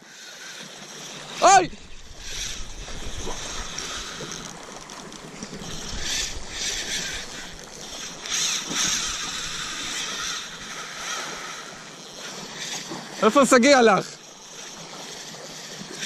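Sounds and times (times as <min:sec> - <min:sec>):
fishing reel drag giving line: 0:00.0 - 0:16.0.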